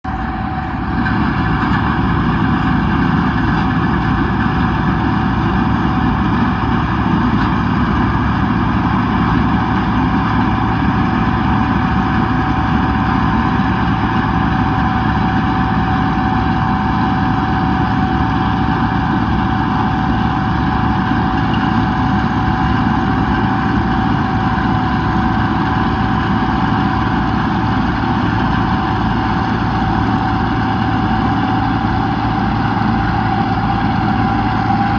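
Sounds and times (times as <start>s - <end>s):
combine harvester diesel engine: 0.0s - 34.9s.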